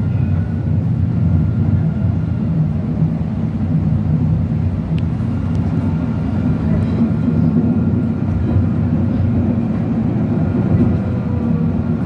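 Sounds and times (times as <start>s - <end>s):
tram low rumble: 0.0s - 12.0s.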